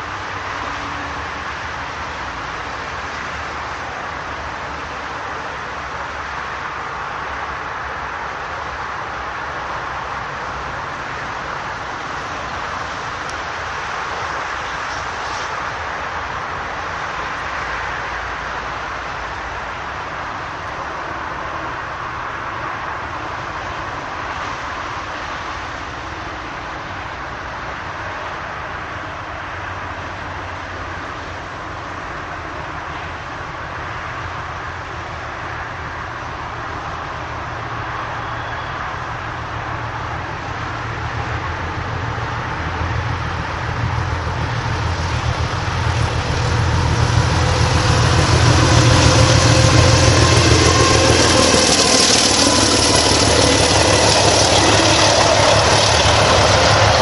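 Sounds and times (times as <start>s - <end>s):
diesel locomotive rumbling: 0.0s - 57.0s.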